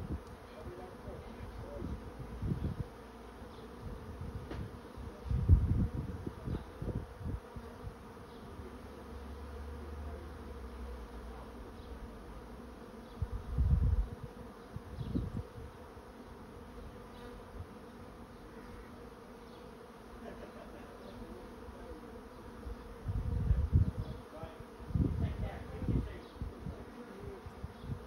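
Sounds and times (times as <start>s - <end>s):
bee swarm buzzing: 0.0s - 28.0s.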